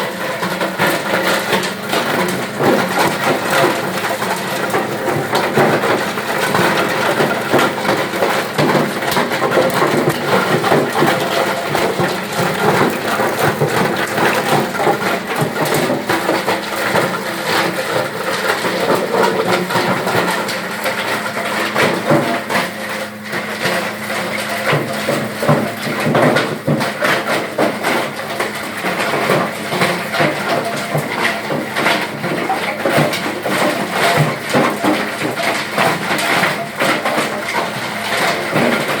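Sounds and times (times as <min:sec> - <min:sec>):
wood crusher breaking wood: 0:00.0 - 0:39.0.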